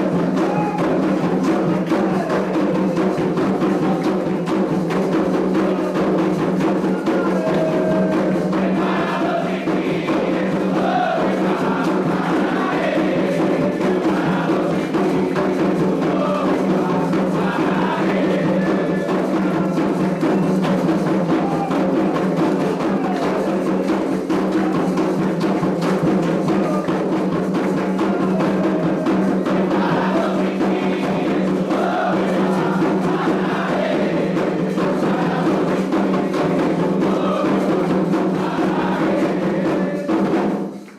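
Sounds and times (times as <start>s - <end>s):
group singing chants: 0.0s - 40.8s
hand drums playing a rhythm: 0.0s - 40.9s.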